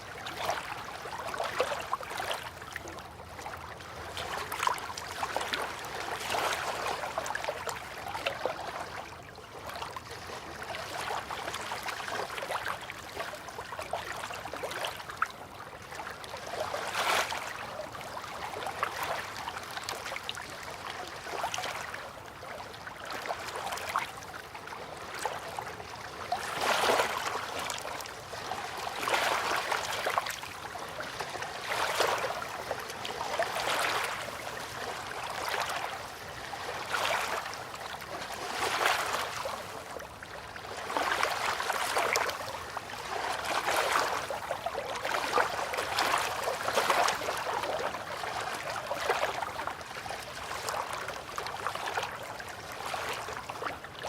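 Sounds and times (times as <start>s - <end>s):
river water lapping and trickling: 0.0s - 54.0s
small water splashes: 0.0s - 54.0s.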